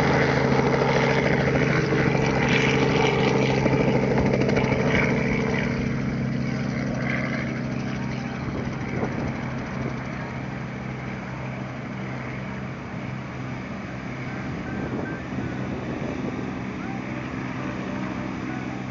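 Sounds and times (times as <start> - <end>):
helicopter rotor and engine drone: 0.0 - 18.9.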